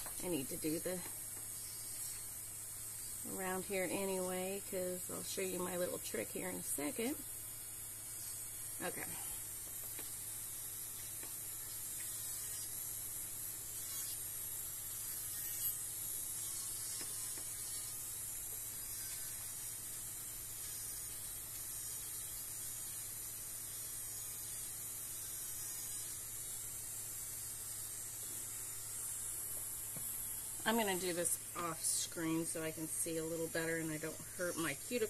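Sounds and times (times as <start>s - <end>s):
electric nail drill whine: 0.0s - 35.0s
steady hiss: 0.0s - 35.0s.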